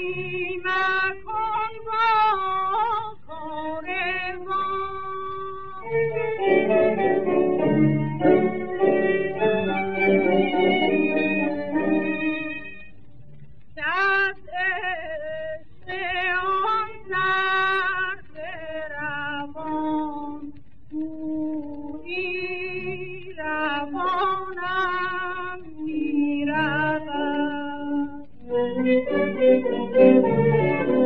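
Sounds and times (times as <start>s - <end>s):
woman singing on old record: 0.0s - 13.1s, 13.7s - 31.0s.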